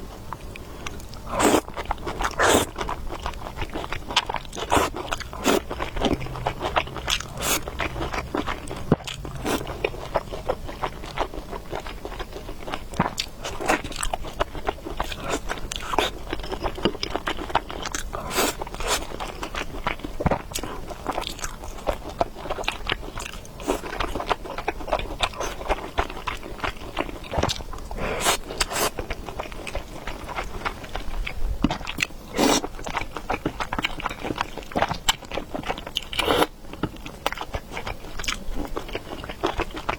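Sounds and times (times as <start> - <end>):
mouth chewing with wet smacks: 0.3 - 39.9.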